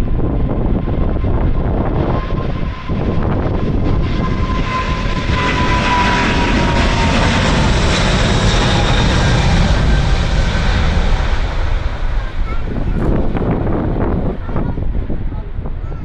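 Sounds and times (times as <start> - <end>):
jet airliner taking off: 0.0 - 16.0
wind buffeting microphone: 0.0 - 16.0.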